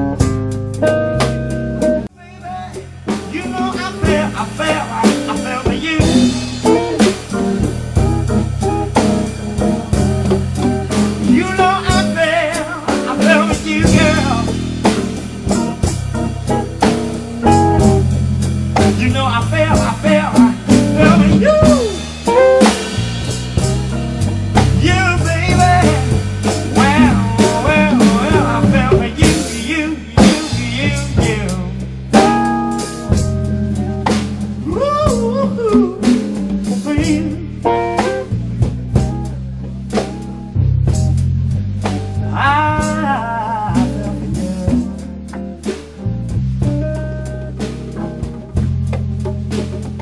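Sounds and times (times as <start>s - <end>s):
blues band playing: 0.0s - 50.0s.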